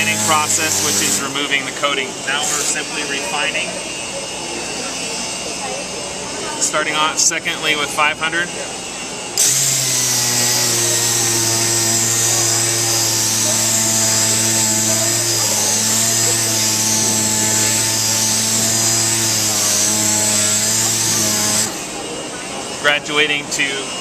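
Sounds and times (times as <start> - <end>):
air-powered sander humming and hissing: 0.0 - 22.8.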